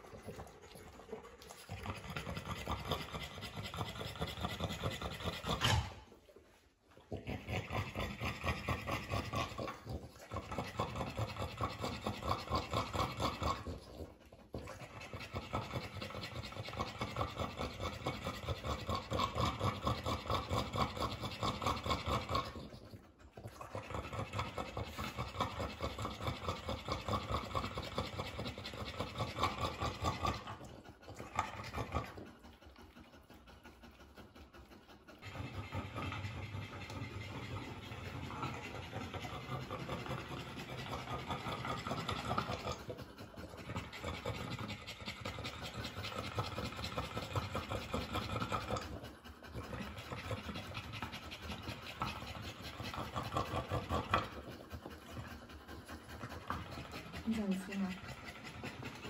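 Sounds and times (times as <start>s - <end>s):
dog panting: 0.0s - 59.0s.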